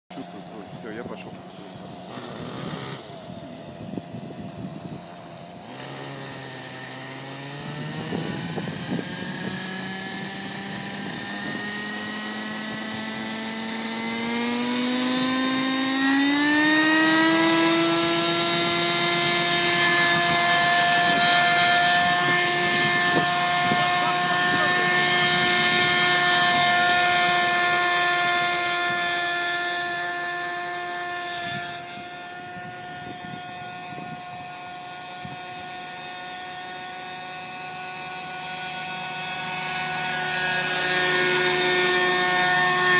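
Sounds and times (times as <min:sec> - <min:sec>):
model helicopter whine: 0:00.1 - 0:42.9.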